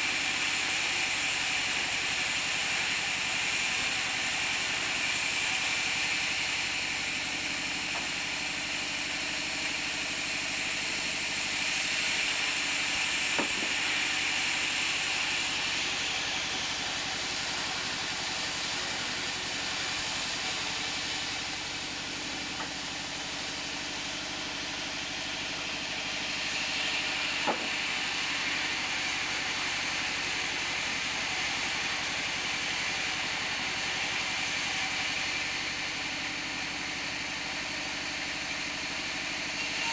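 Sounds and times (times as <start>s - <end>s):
band saw cutting wood: 0.5s - 35.6s.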